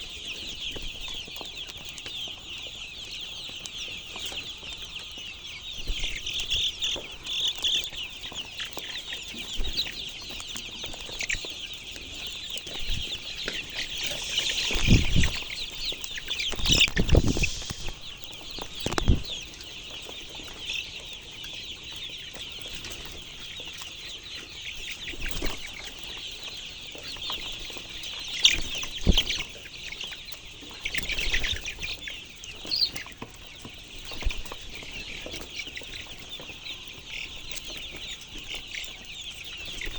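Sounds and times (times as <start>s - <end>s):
chickens clucking and cheeping: 0.0s - 39.9s.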